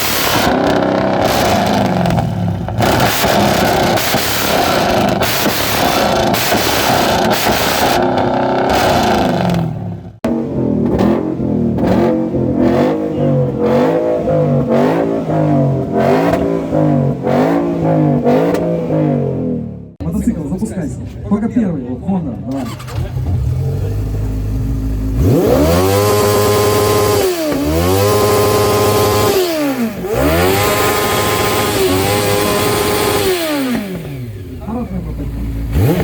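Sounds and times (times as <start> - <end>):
car engine revving: 0.0 - 20.0, 22.5 - 36.0.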